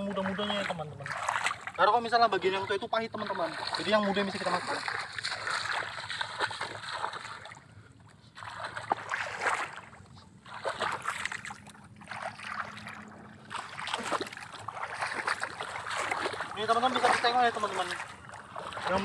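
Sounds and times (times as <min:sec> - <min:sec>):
feet splashing in muddy water: 0:00.0 - 0:19.0.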